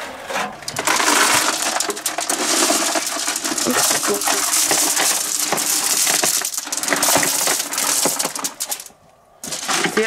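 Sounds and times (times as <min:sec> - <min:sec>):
gravel clattering and crunching: 0:00.4 - 0:10.0.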